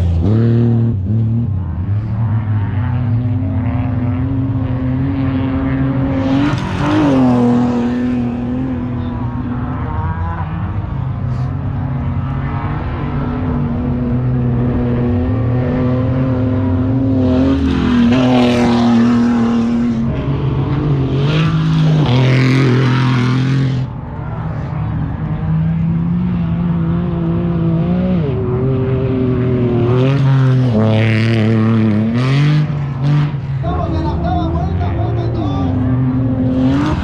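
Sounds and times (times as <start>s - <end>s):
race vehicle engine revving: 0.0s - 37.0s.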